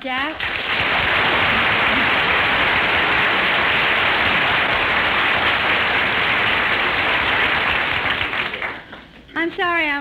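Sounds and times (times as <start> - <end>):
muffled audience applause: 0.4 - 9.2.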